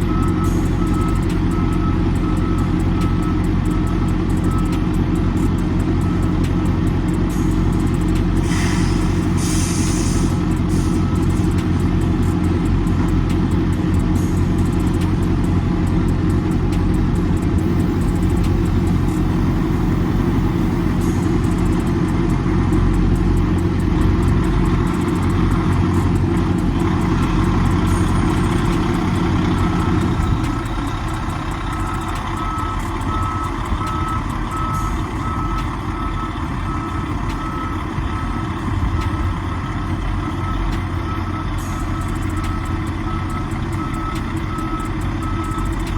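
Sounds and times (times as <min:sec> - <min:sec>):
diesel truck engine running: 0:00.0 - 0:45.9
reversing alarm beeping: 0:00.0 - 0:45.9.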